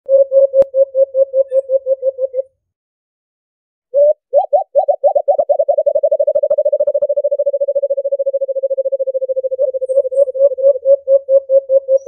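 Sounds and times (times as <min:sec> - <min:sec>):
dove cooing: 0:00.1 - 0:02.5, 0:04.0 - 0:12.0.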